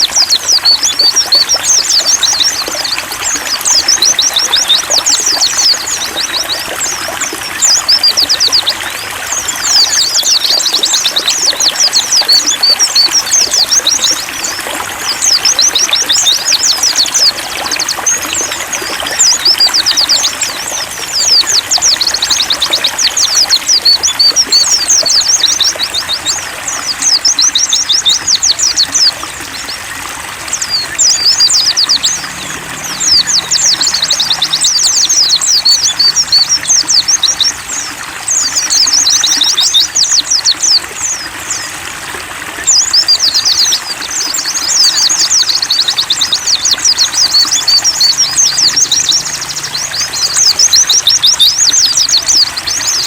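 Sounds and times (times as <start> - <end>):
running water trickling: 0.0 - 53.0
twittering birdsong: 0.0 - 53.0.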